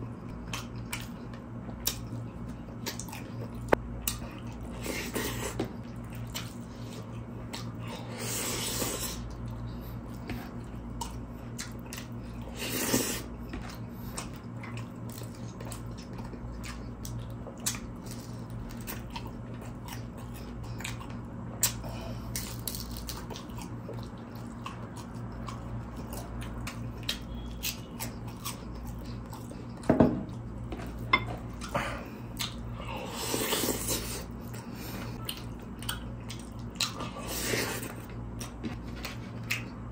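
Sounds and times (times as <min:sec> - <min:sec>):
close chewing and mouth sounds: 0:00.0 - 0:39.9
steady low hum: 0:00.0 - 0:39.9.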